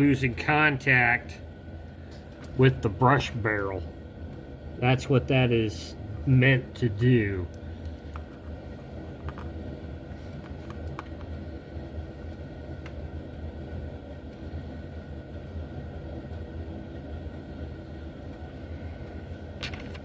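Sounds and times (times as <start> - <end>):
low rumble of background noise: 0.0 - 20.0.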